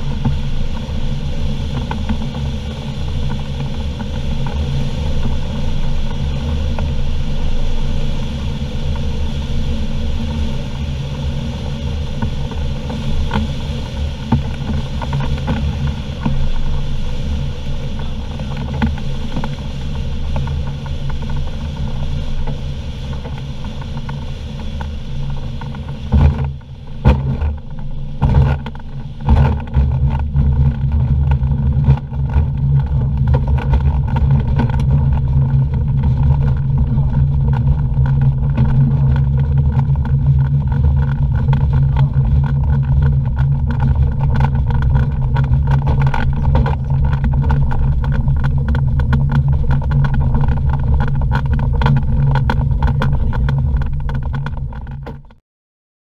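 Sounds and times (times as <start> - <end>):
aircraft engine and propeller: 0.0 - 55.3.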